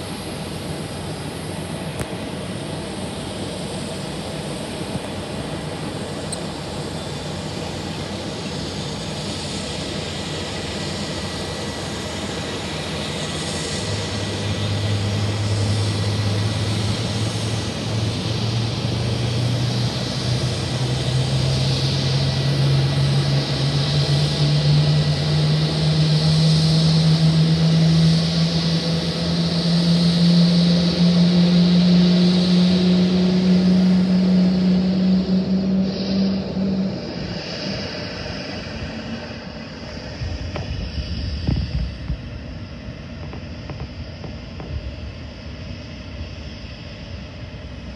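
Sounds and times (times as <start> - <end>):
jet engine spooling up: 0.0 - 47.9.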